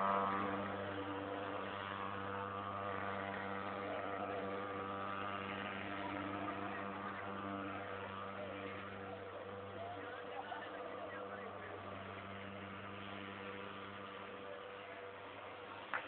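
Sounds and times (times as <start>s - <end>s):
fogging machine engine drone: 0.0s - 16.0s.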